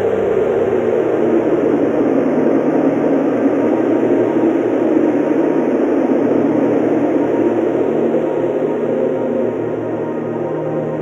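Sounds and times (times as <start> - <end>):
soft ambient music: 0.0 - 11.0
strong wind through forest: 0.0 - 11.0.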